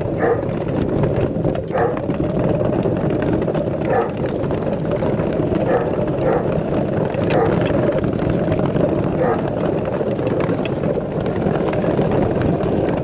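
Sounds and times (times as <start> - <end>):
dog treadmill rumbling: 0.0 - 13.0.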